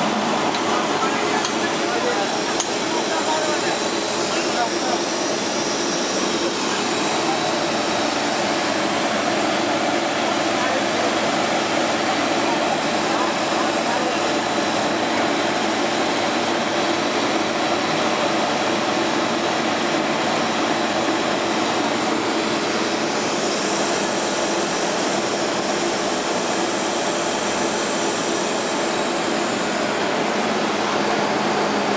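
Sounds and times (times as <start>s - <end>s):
steam locomotive hissing: 0.0s - 31.9s.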